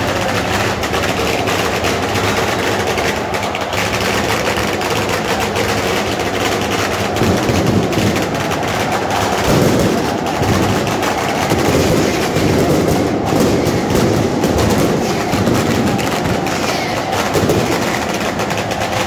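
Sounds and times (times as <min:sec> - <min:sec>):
firecrackers banging: 0:00.0 - 0:19.0
football crowd cheering: 0:00.0 - 0:19.0.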